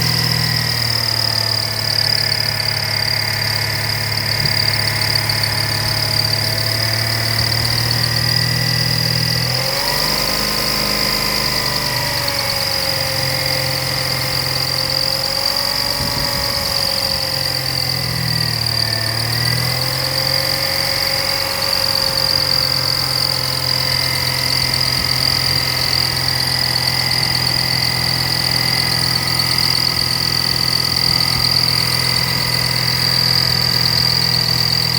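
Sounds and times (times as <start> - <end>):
car engine idling: 0.0 - 34.9
high-pitched belt whine: 0.0 - 34.9.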